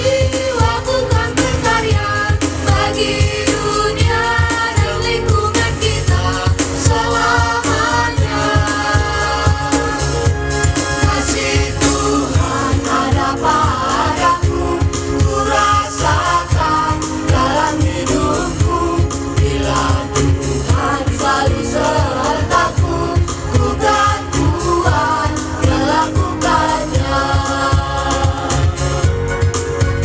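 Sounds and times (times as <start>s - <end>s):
group singing live: 0.0s - 29.9s
band playing: 0.0s - 30.0s
steady drum beat: 0.0s - 30.0s.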